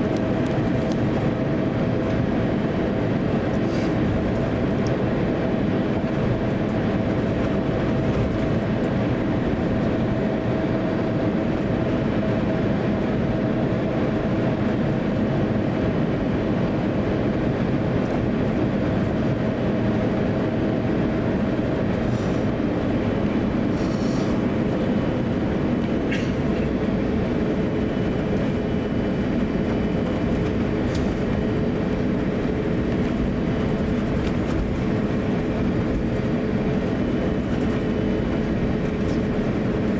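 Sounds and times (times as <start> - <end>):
aircraft cabin noise: 0.0 - 39.9.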